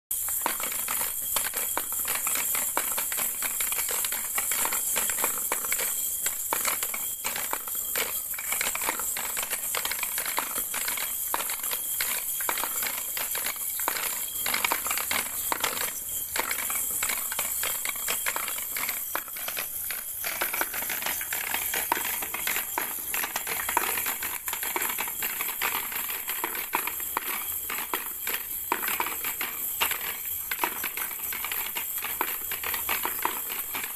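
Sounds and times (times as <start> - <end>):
plastic balls clattering down ramps: 0.1 - 33.9.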